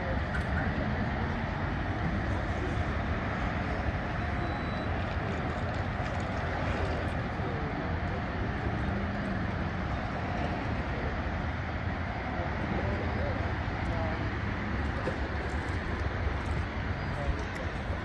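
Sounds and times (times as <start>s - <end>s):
faint voices: 0.0s - 18.0s
low vehicle rumble: 0.0s - 18.0s.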